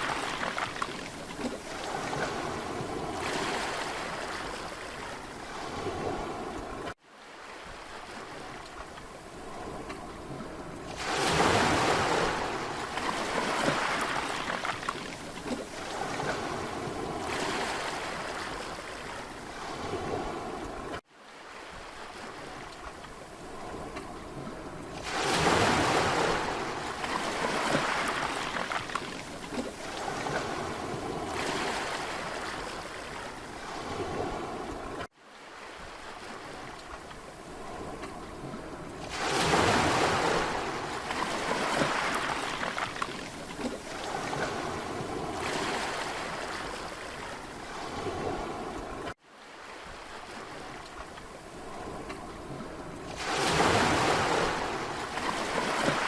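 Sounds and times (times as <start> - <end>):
sea waves breaking on beach: 0.0 - 56.0
water washing up and ebbing: 0.0 - 56.0.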